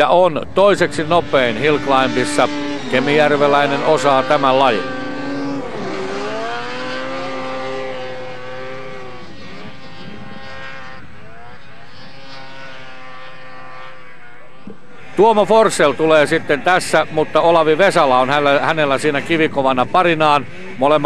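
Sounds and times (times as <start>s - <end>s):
snowmobile engine at high revs: 0.1s - 21.0s.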